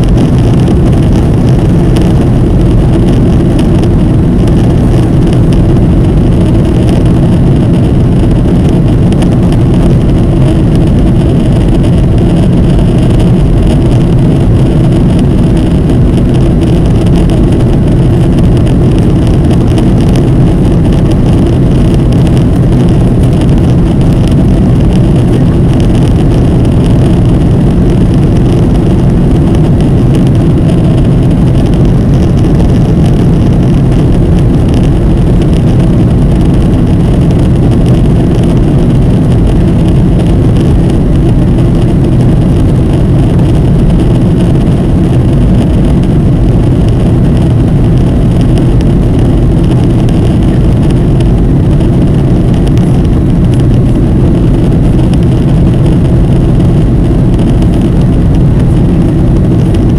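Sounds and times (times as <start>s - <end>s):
air rushing over fuselage: 0.0s - 57.6s
jet engine low rumble: 0.0s - 59.9s.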